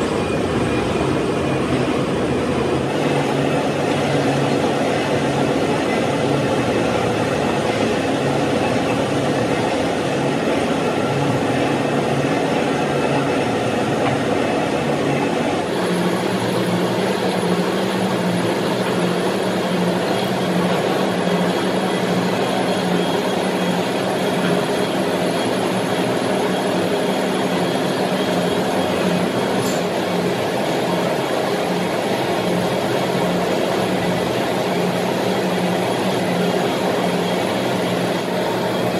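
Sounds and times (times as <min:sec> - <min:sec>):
machine drone: 0:00.0 - 0:38.9.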